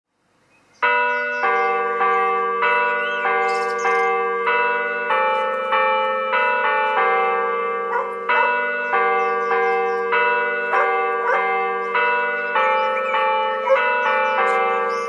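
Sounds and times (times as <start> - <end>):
bells ringing a tune: 0.8 - 15.0.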